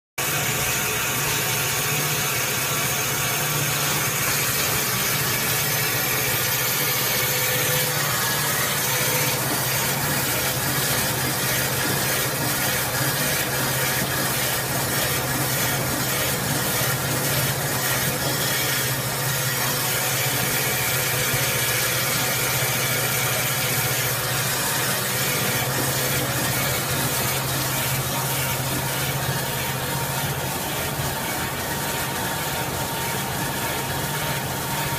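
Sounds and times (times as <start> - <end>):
cutting machine droning: 0.2 - 34.9.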